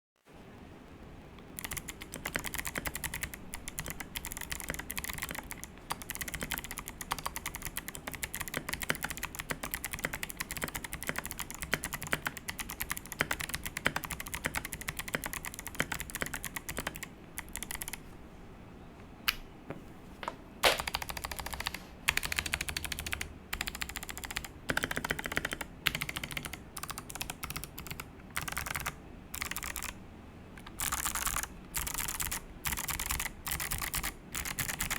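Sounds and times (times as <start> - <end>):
clicky keyboard typing: 1.4 - 18.0, 20.6 - 30.0, 30.6 - 34.9.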